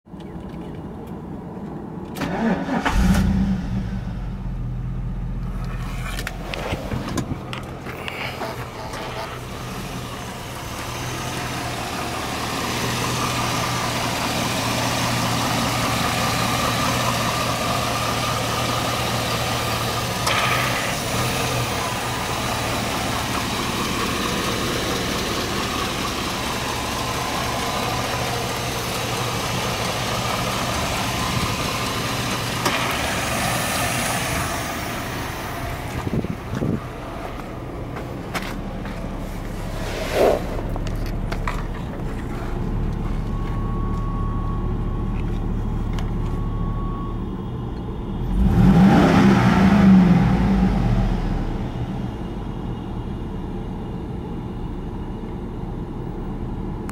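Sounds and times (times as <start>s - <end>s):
car engine idling: 0.1s - 56.9s.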